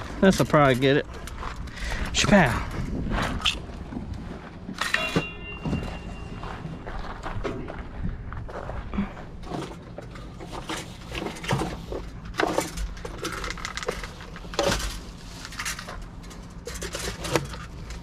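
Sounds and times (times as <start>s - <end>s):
steady low hum: 0.0s - 18.0s
objects knocking and scraping: 2.7s - 7.9s, 8.5s - 18.0s.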